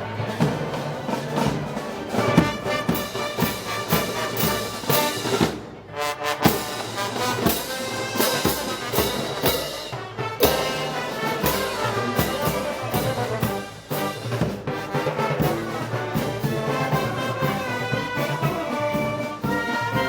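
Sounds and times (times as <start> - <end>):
brass band playing: 0.0 - 20.0
drum strokes: 0.0 - 20.0.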